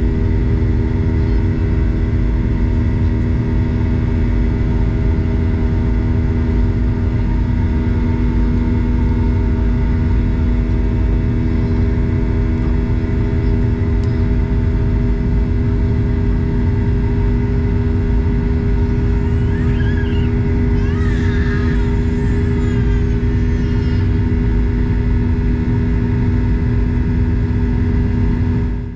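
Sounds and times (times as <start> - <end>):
jet engines roaring in cabin: 0.0 - 28.9.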